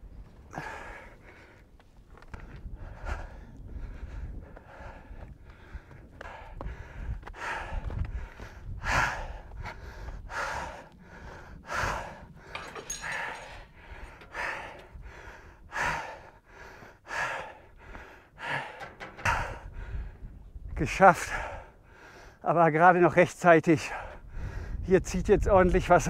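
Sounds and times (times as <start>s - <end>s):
man breathing hard: 0.4s - 22.4s, 23.8s - 24.9s.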